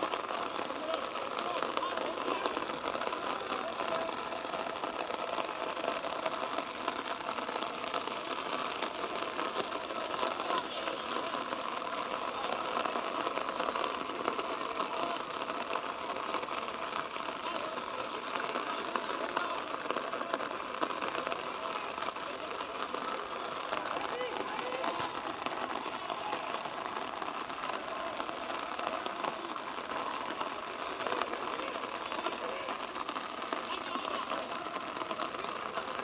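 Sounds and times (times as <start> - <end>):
distant players' voices and calls: 0.0 - 36.0.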